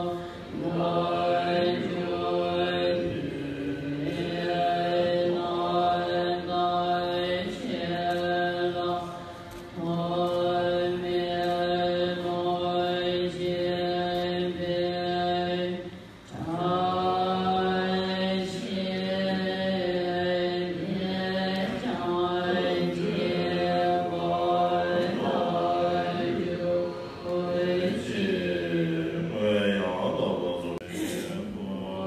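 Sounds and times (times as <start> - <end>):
voices chanting: 0.0 - 32.0.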